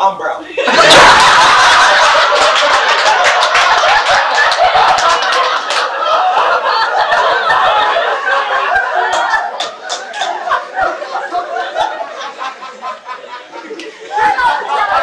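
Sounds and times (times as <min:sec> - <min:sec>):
audience laughing: 0:00.6 - 0:15.0.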